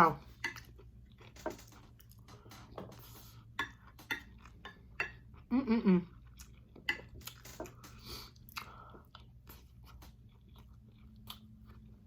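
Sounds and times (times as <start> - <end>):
person chewing crunchy food: 0.2 - 12.0.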